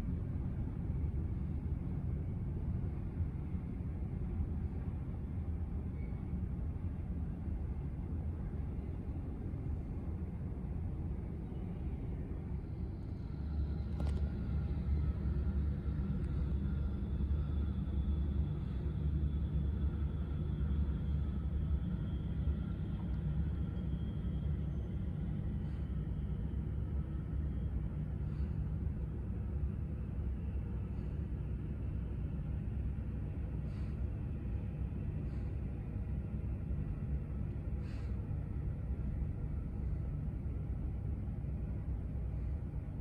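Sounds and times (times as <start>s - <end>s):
faint thin whine: 0.0s - 43.0s
jet engines rumbling: 7.4s - 43.0s.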